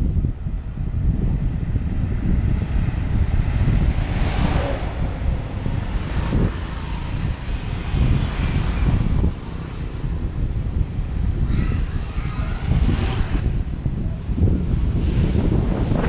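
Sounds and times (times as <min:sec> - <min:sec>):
wind buffeting microphone: 0:00.0 - 0:16.0
vehicle running noise: 0:00.1 - 0:16.0.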